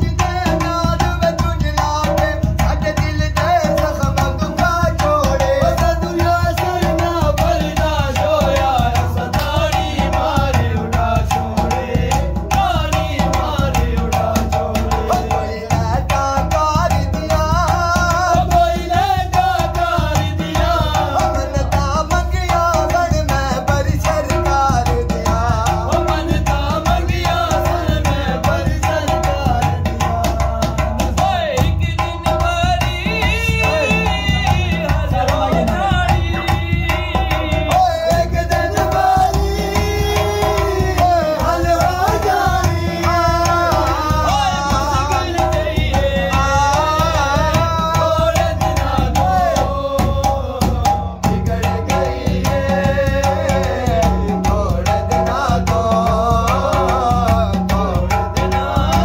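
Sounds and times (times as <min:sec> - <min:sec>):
man singing: 0:00.0 - 0:59.0.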